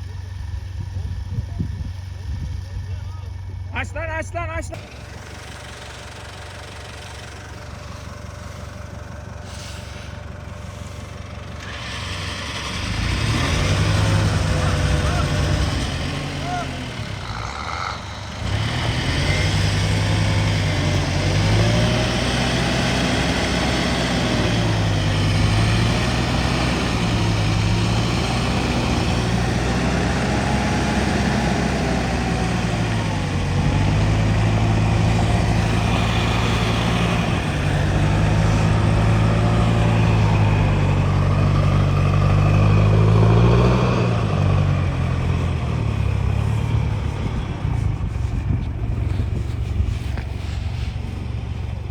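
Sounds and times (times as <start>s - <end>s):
truck engine revving: 4.7s - 51.9s.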